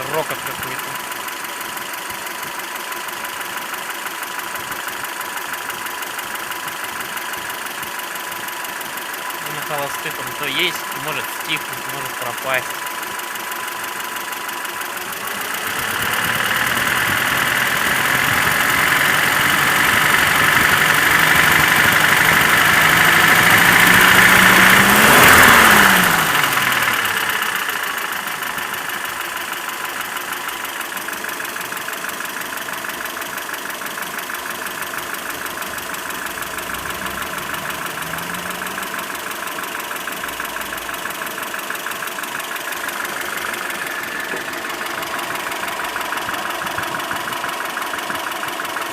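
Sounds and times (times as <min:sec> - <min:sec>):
engine knocking rattle: 0:00.0 - 0:48.9
petrol engine revving and idling: 0:00.0 - 0:48.9.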